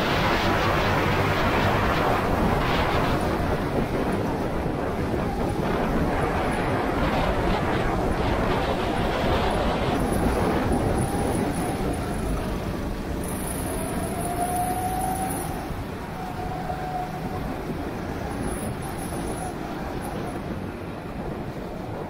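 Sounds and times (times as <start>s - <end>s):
wind and road noise rumble: 0.0s - 22.0s
go-kart engine running: 2.8s - 21.6s.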